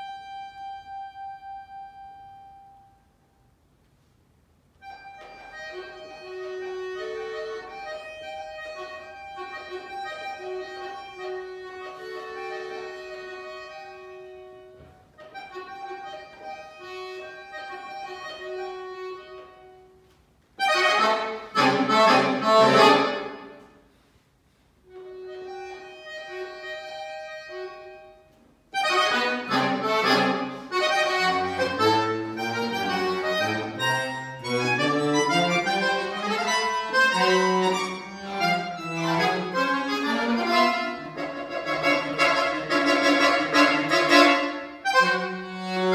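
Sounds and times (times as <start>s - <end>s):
solo accordion playing: 0.0s - 3.2s, 4.6s - 24.0s, 24.8s - 45.9s.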